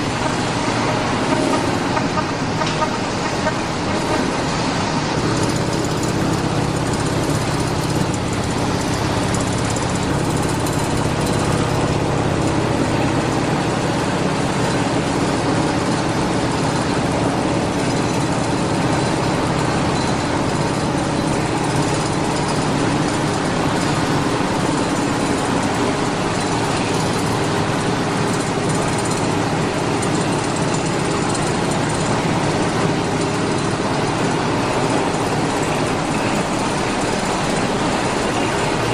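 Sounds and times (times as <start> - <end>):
continuous rushing noise: 0.0 - 38.9
conveyor machinery hum: 0.0 - 38.9.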